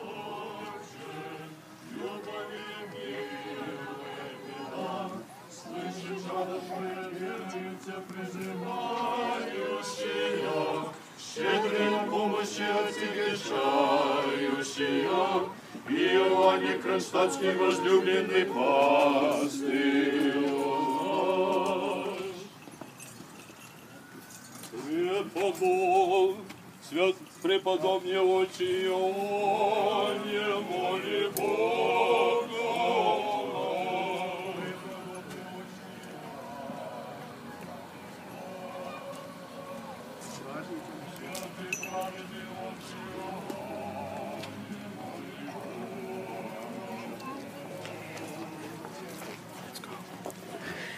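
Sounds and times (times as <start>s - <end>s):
group singing unaccompanied chant: 0.0s - 22.6s, 24.7s - 49.5s.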